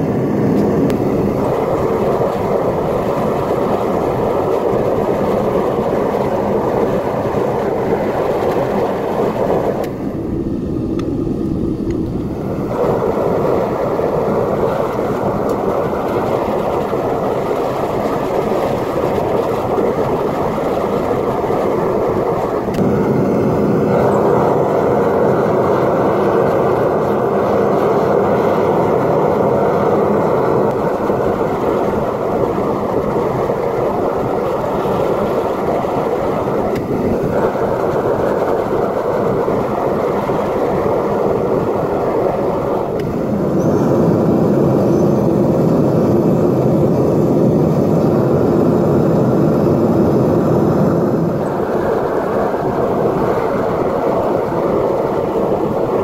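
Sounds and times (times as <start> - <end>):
furnace burner roaring: 0.0 - 56.0.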